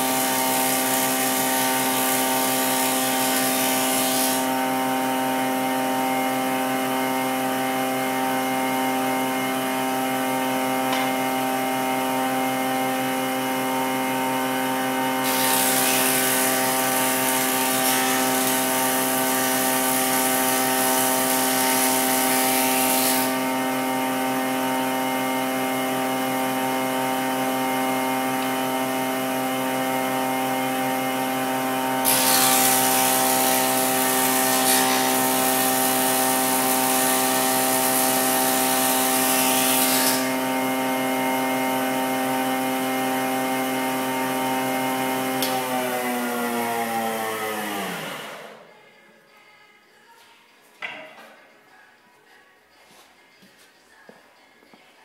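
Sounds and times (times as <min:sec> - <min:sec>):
woodworking machine motor hum: 0:00.0 - 0:48.6.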